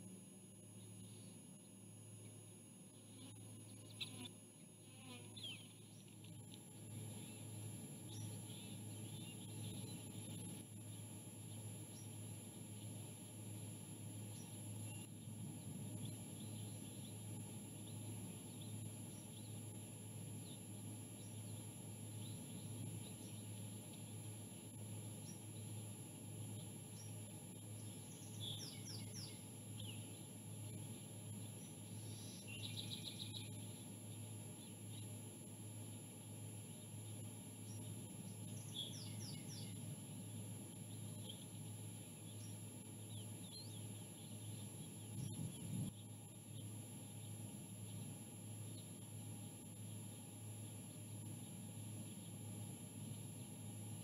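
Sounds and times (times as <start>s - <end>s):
low hum with high whine: 0.0s - 54.0s
small birds chirping: 5.0s - 54.0s.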